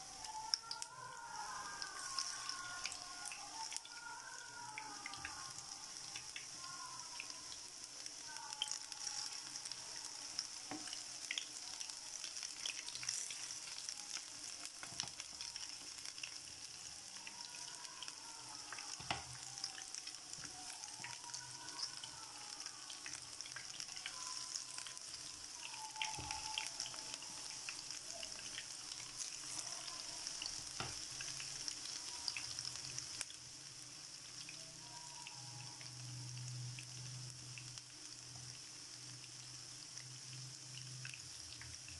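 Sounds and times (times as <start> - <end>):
food deep-frying in oil: 0.0 - 41.9.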